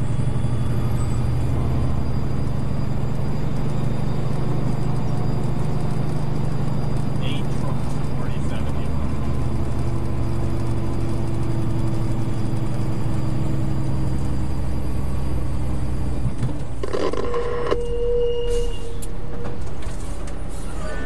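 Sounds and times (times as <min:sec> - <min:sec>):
vehicle engine and road hum: 0:00.0 - 0:21.0.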